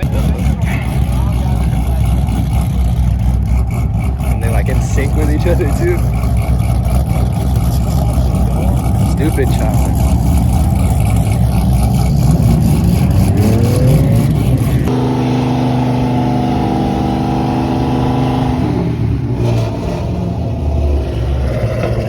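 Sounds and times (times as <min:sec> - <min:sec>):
car engines revving: 0:00.0 - 0:22.0
engine held at high pitch: 0:00.0 - 0:22.0.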